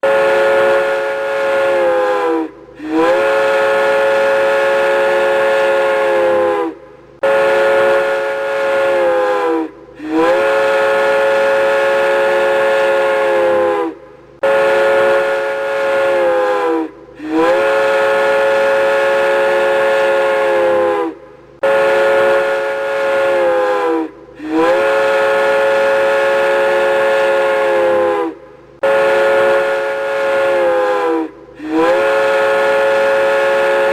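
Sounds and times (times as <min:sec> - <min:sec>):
train horn blasts: 0:00.0 - 0:33.9.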